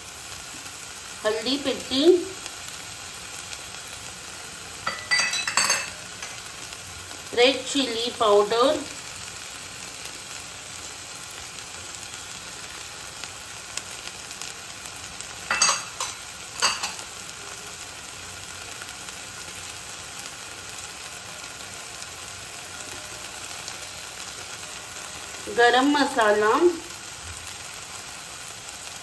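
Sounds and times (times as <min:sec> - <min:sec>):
onion and tomato sizzling in a pan: 0:00.0 - 0:29.0.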